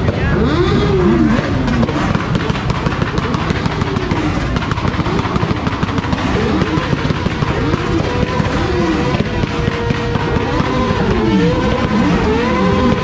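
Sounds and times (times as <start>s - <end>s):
exhaust popping and crackling: 0.0s - 13.0s
motorcycle engines revving: 0.0s - 13.0s.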